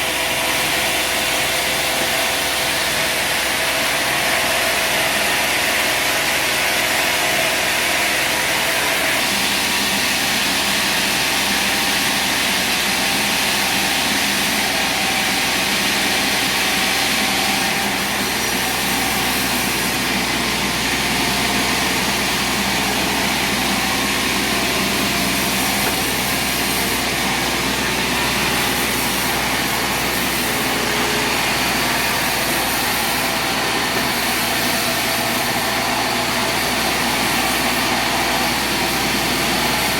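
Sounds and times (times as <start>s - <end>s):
sawmill machine noise: 0.0s - 39.9s.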